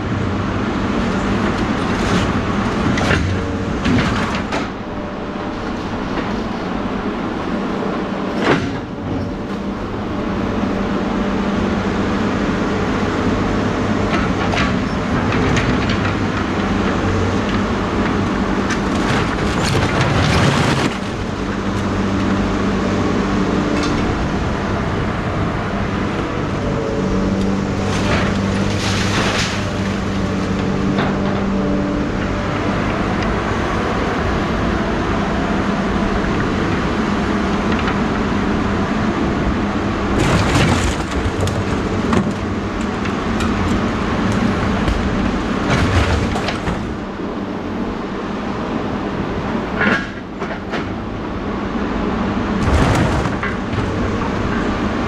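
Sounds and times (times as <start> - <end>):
motor vehicle running: 0.0 - 55.0.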